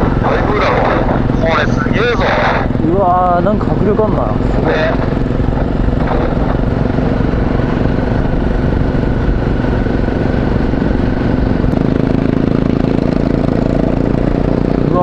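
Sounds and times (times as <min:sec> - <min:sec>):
motorcycle engine running: 0:00.0 - 0:15.0
wind rumble on microphone: 0:00.0 - 0:15.0.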